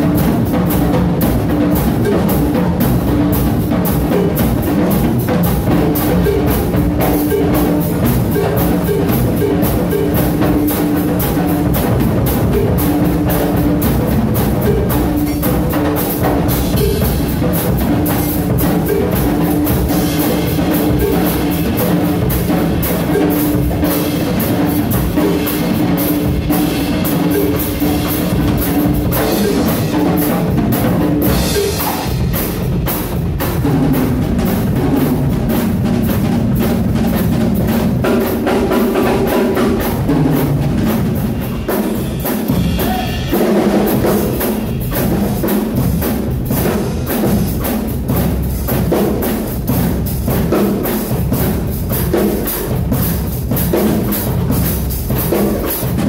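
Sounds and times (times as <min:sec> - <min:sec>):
drum and cymbal hits: 0:00.0 - 0:56.0.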